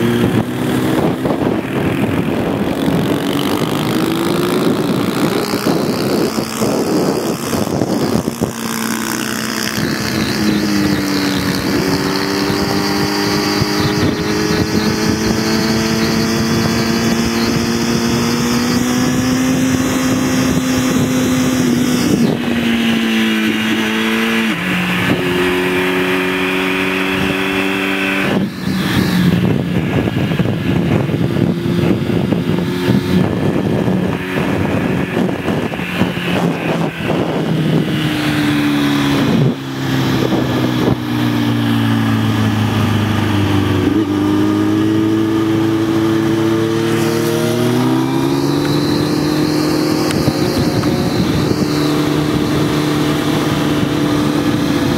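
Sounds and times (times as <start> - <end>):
motorcycle engine running: 0.0 - 54.9
wind rushing: 0.0 - 54.9.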